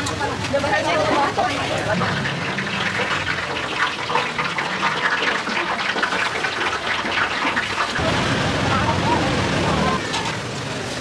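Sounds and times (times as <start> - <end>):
food sizzling and crackling: 0.0 - 11.0.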